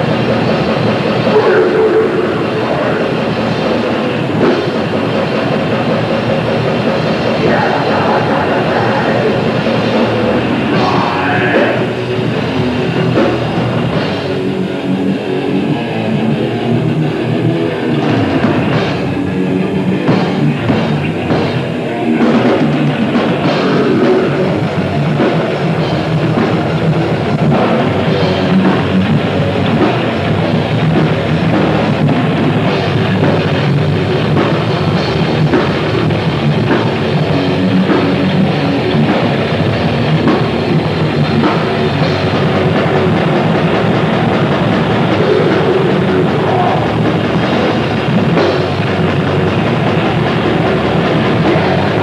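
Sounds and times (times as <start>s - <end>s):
distorted guitars: 0.0s - 52.0s
fast dense drumming: 0.0s - 52.0s.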